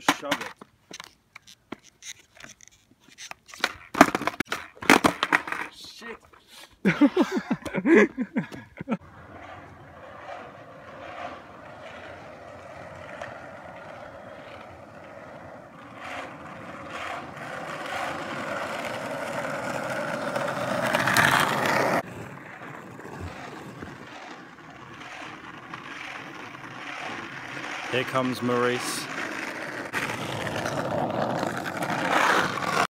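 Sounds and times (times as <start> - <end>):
skateboard wheels rolling on asphalt: 0.0 - 6.1, 6.8 - 32.9.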